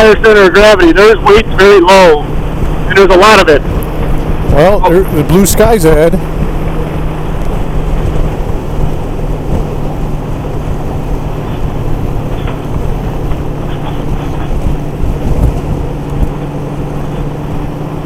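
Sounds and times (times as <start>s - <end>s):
motorcycle engine and road drone: 0.0s - 18.0s
wind rushing over microphone: 0.0s - 18.0s.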